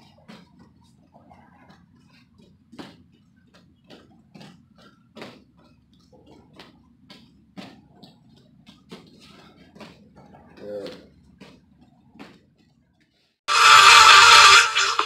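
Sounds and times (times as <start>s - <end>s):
bare feet slapping on mat: 0.0s - 13.1s.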